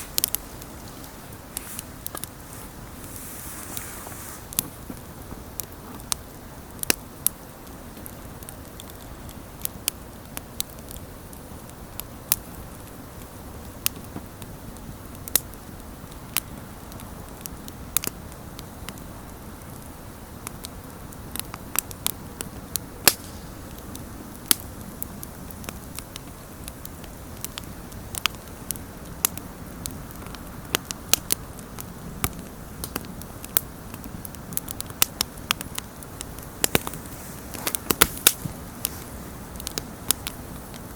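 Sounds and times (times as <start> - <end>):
burning wood crackling and popping: 0.0 - 40.9
campfire flames rushing: 0.0 - 40.9.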